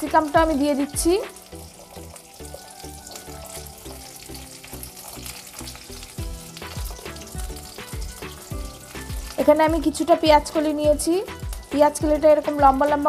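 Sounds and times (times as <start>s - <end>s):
soft background music: 0.0s - 13.0s
vegetables sizzling in oil: 0.0s - 13.0s.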